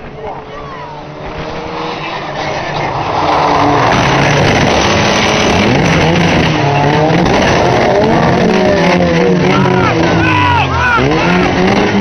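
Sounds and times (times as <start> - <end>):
racing car engines revving: 0.0 - 12.0.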